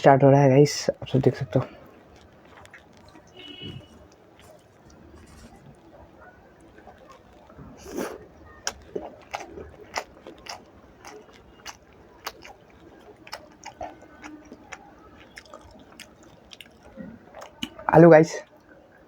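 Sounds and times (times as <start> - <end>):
person chewing food: 1.1 - 18.8.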